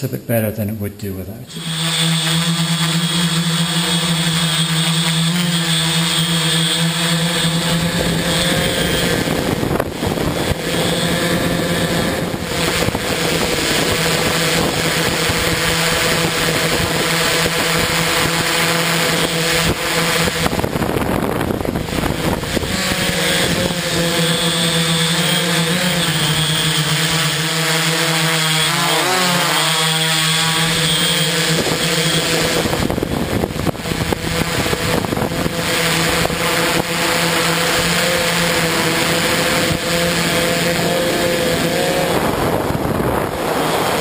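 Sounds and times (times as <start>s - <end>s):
drone motors humming: 1.4s - 44.0s.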